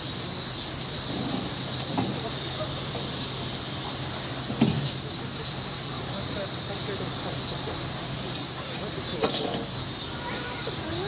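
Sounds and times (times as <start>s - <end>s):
insect chorus hiss: 0.0s - 11.0s
faint low murmurs: 0.7s - 11.0s.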